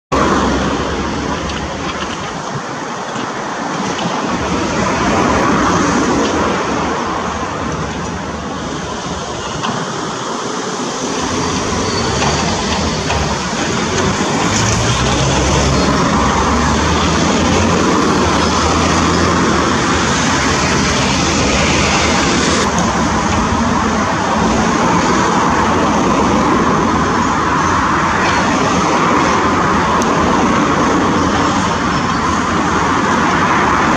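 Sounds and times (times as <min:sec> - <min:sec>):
excavator diesel engine: 0:00.1 - 0:33.9.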